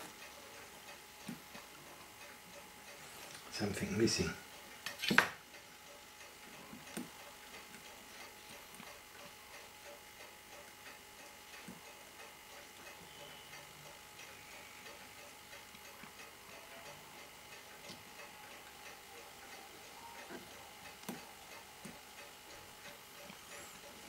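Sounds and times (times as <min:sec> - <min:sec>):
clock ticking: 0:00.0 - 0:04.8, 0:05.4 - 0:24.0.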